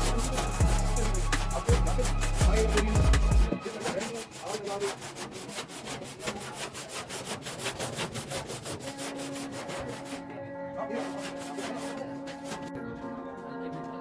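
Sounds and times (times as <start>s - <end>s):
hand sanding strokes: 0.0s - 12.7s.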